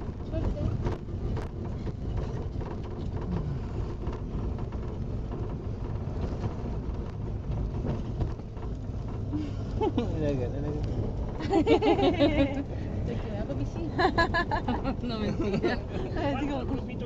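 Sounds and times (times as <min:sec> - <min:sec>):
car rumble from inside cabin: 0:00.0 - 0:17.0.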